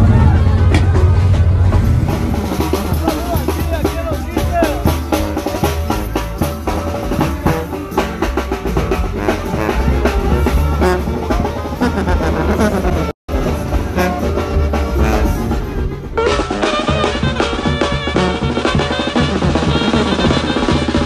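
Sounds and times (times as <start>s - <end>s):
bass drum: 0.0s - 21.0s
brass band playing: 0.0s - 21.0s.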